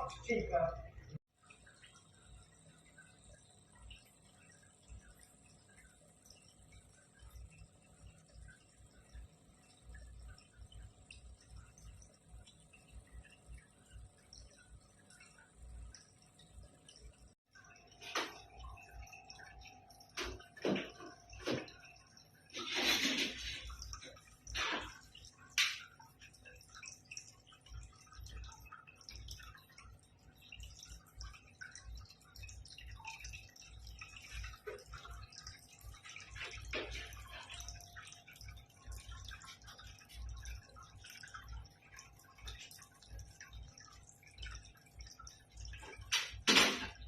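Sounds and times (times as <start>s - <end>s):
faint steady hum: 0.0s - 47.0s
water dripping and trickling: 0.0s - 47.0s.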